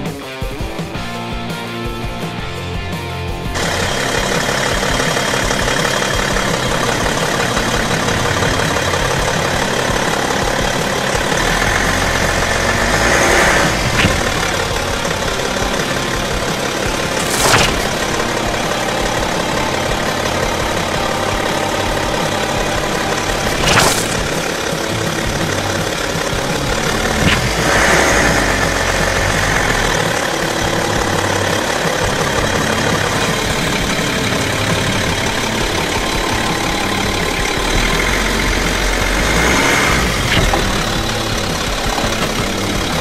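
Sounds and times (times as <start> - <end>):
car engine idling: 0.9 - 43.0.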